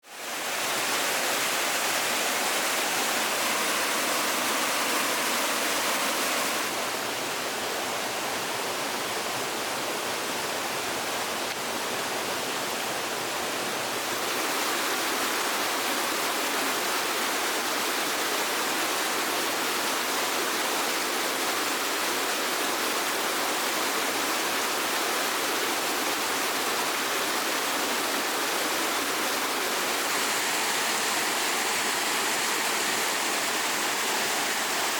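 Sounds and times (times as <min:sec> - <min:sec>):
water rushing: 0:00.0 - 0:34.9.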